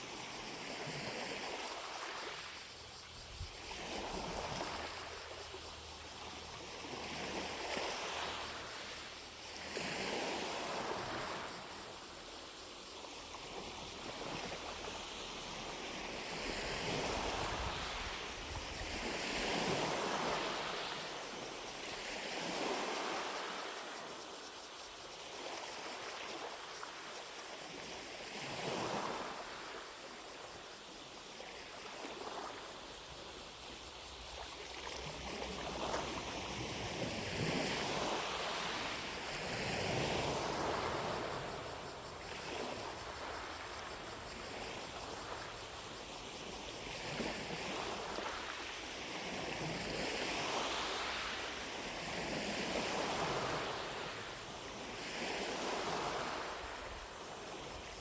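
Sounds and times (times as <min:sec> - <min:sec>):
distant cicadas droning: 0:00.0 - 0:58.0.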